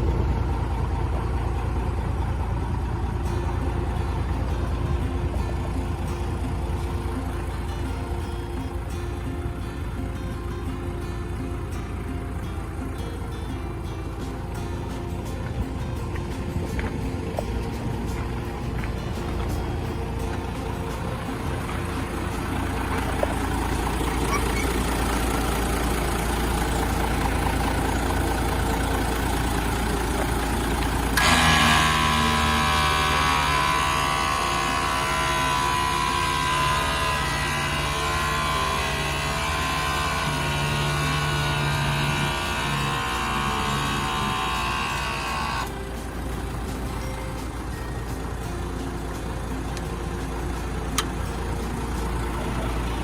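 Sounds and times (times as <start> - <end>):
truck diesel engine running: 0.0 - 53.0
wavering multi-tone whine: 0.0 - 53.0.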